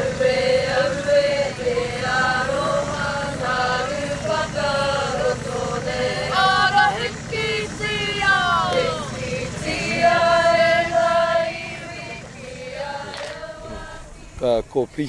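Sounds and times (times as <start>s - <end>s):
women and girls singing in unison: 0.0s - 14.4s.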